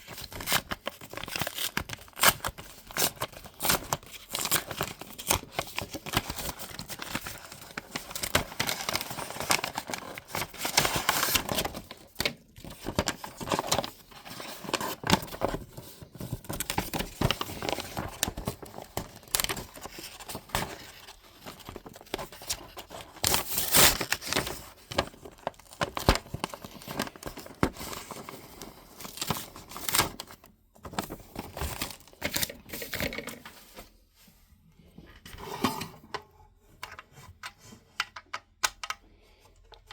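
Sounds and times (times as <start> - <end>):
packaging crinkling and tearing: 0.0 - 33.4.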